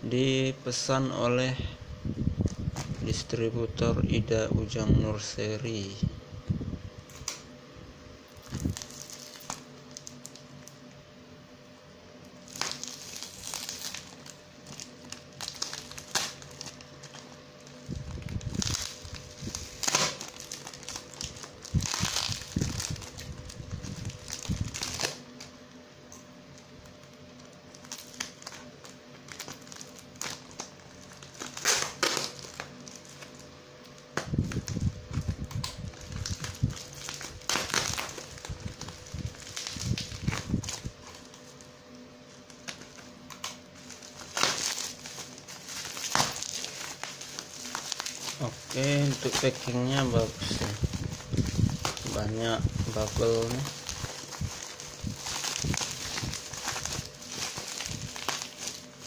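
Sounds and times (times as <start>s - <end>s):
plastic bag and tape crinkling: 2.1s - 4.2s, 8.3s - 11.0s, 12.3s - 59.0s.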